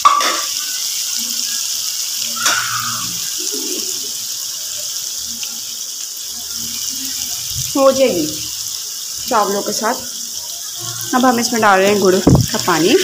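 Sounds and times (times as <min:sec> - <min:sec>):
lentils sizzling in oil: 0:00.0 - 0:13.0.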